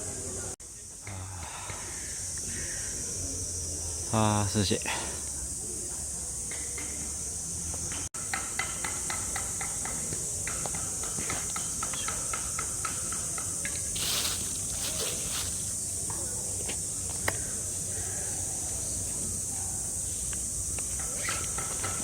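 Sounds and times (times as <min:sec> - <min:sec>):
cicadas chorus: 0:00.0 - 0:22.0.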